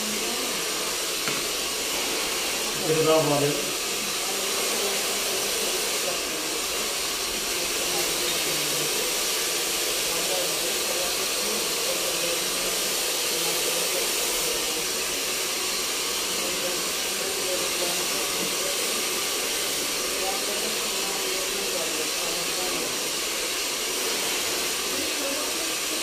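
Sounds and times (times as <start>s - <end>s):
rushing air hiss: 0.0s - 26.0s.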